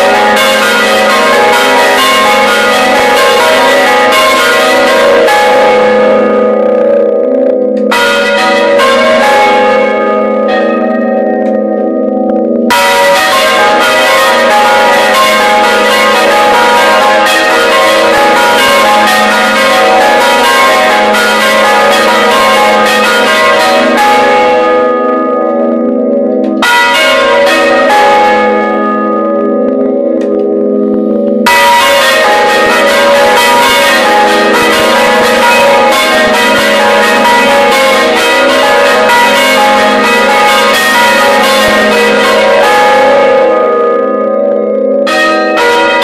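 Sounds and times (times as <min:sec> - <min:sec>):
low bell hum: 0:00.0 - 0:45.9
church bells pealing: 0:00.0 - 0:46.0.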